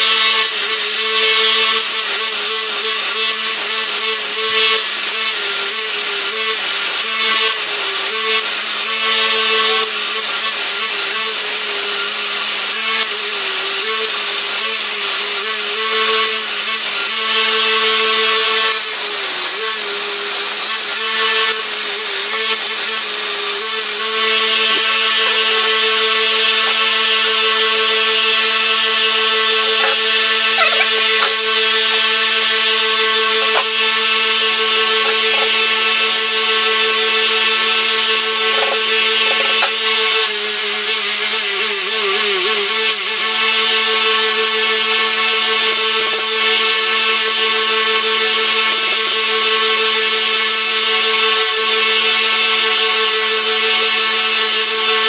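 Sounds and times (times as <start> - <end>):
belt sander motor hum: 0.0 - 47.0.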